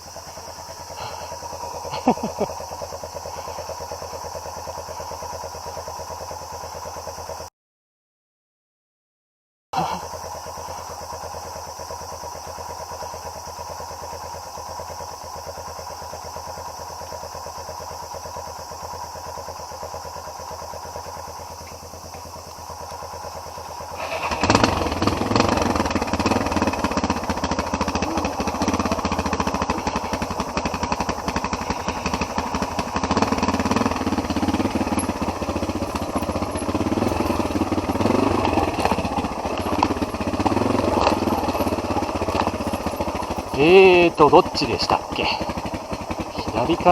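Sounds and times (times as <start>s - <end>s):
motorcycle engine running: 0.0s - 7.5s, 9.8s - 46.9s.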